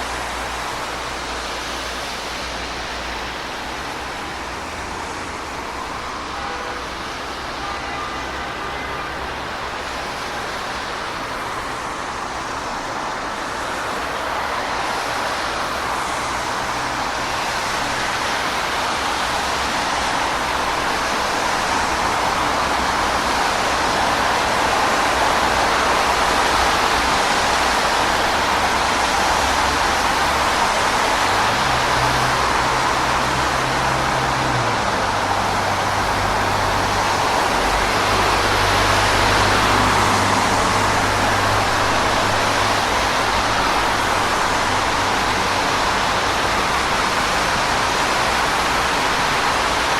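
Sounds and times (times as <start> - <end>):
heavy vehicle engine hum: 0.0 - 49.9
road traffic: 0.0 - 49.9.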